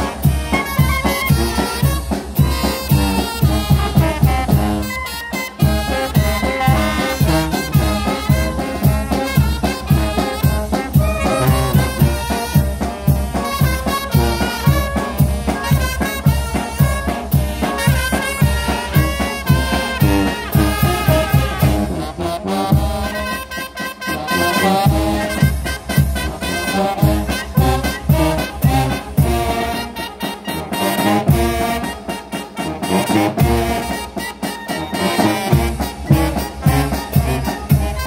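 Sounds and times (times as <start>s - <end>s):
brass band playing: 0.0s - 38.0s.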